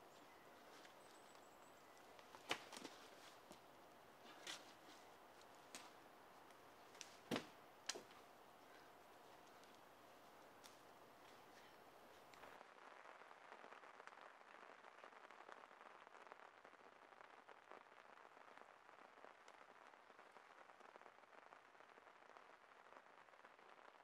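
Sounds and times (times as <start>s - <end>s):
campfire crackling: 0.0s - 23.8s.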